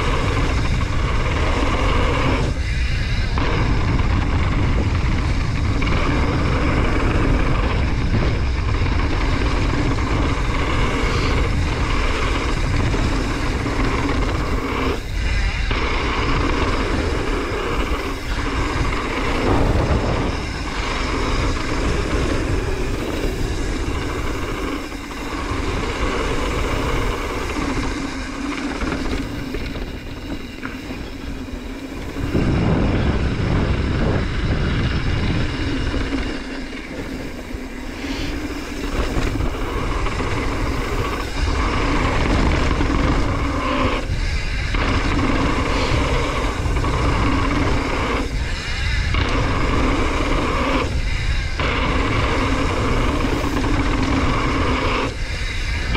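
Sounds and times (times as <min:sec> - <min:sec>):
wind rush on microphone: 0:00.0 - 0:55.9.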